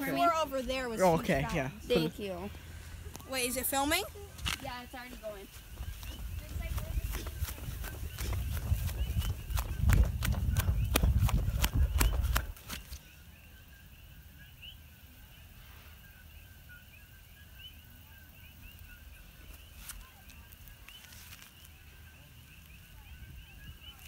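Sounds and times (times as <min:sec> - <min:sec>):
frogs chirping: 0:00.0 - 0:24.0.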